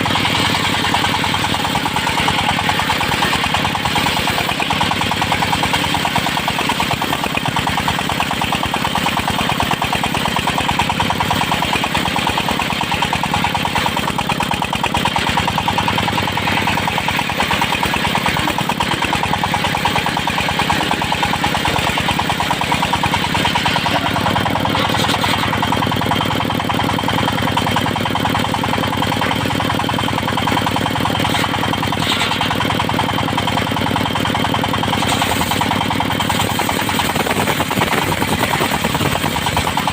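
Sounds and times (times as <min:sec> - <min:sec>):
sawmill motor and blade running: 0:00.0 - 0:39.9.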